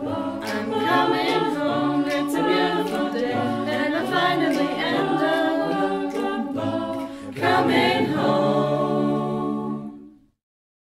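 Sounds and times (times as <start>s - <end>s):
choir singing a cappella: 0.0s - 10.4s.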